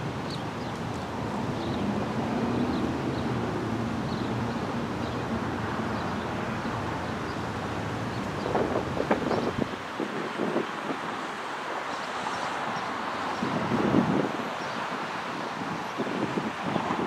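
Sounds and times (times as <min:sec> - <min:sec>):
wind gusts on microphone: 0:00.0 - 0:17.0.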